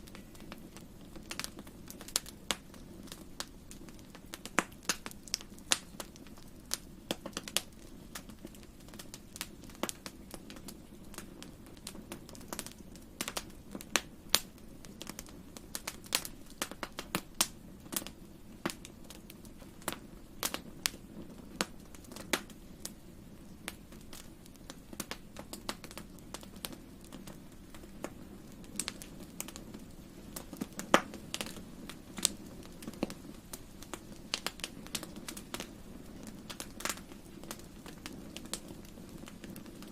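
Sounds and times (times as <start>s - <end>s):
low hiss of burning: 0.0s - 39.9s
wood fire crackling: 0.0s - 39.9s.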